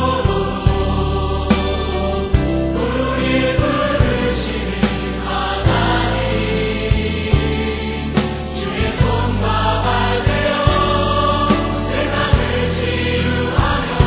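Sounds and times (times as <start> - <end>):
choir singing worship song: 0.0 - 14.0.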